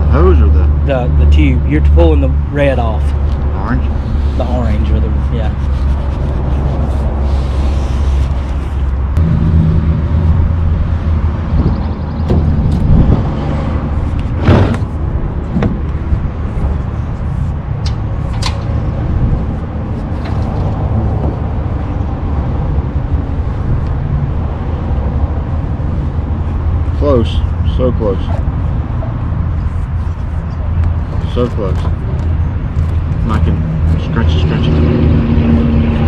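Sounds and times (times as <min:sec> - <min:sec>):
engine rumbling: 0:00.0 - 0:36.0.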